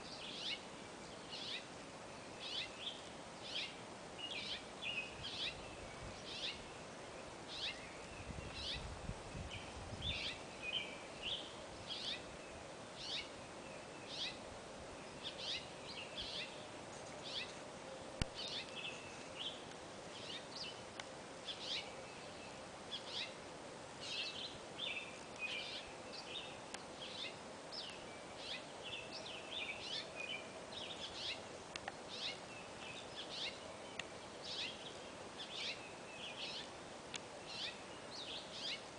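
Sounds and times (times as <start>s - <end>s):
birds chirping: 0.0s - 17.6s, 18.2s - 23.4s, 24.0s - 38.9s.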